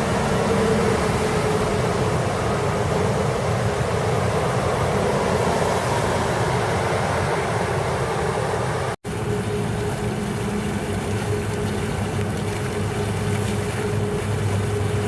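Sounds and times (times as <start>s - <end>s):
faint steady hum: 0.0s - 15.0s
floodwater rushing: 0.0s - 15.0s.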